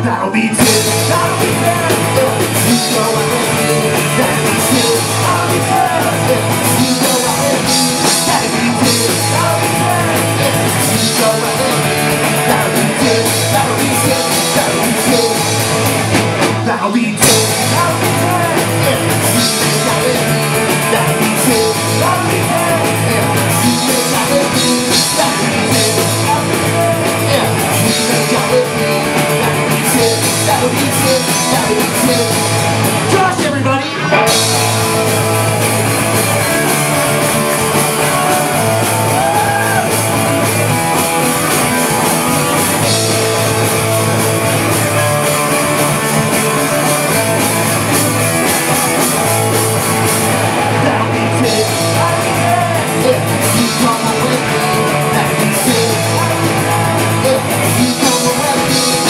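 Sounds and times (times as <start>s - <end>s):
person singing: 0.0s - 59.0s
punk rock band playing: 0.0s - 59.0s.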